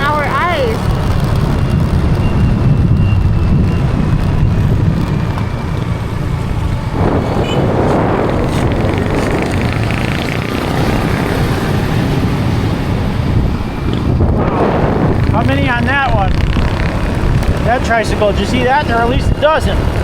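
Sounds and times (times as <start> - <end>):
engine and road rumble: 0.0 - 20.0.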